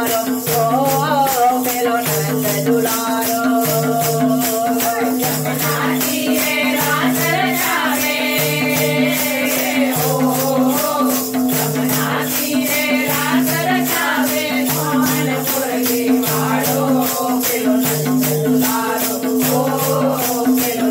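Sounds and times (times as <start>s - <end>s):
women singing together: 0.0s - 20.9s.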